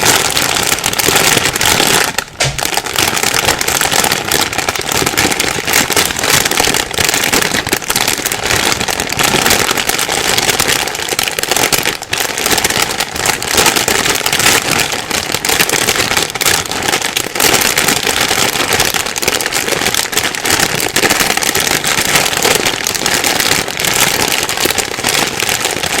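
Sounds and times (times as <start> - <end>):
plastic bag rustling and crinkling: 0.0 - 26.0.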